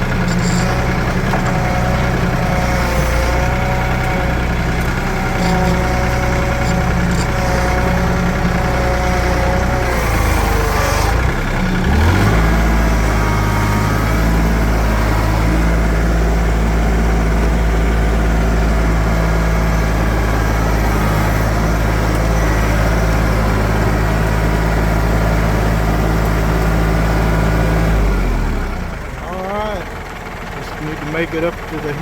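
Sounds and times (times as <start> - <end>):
tractor diesel engine revving: 0.0 - 32.0.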